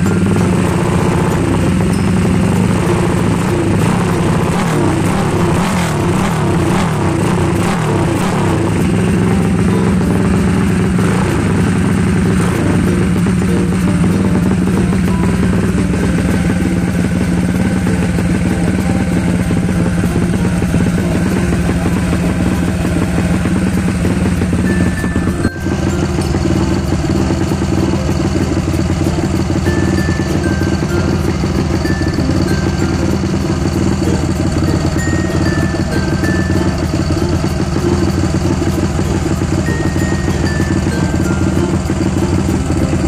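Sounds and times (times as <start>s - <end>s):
motorcycle engine revving and idling: 0.0s - 43.0s.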